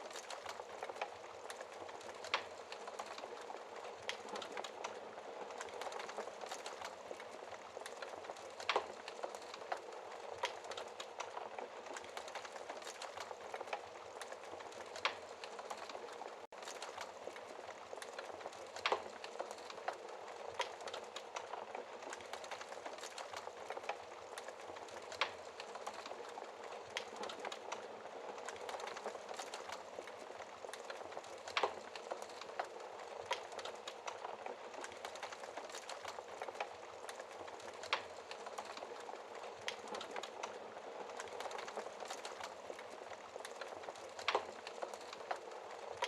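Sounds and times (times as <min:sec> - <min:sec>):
fireplace fire crackling: 0:00.0 - 0:46.0.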